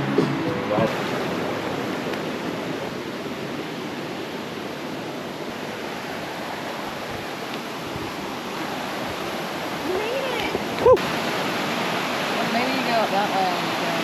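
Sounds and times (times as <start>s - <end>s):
waterfall and creek rushing: 0.0s - 14.0s.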